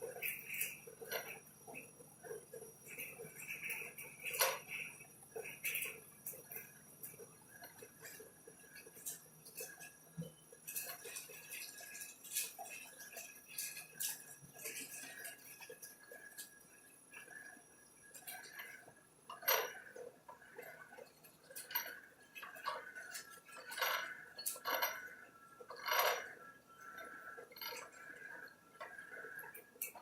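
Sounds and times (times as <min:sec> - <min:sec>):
metallic clinks and knocks: 0:00.0 - 0:17.3, 0:18.1 - 0:30.0.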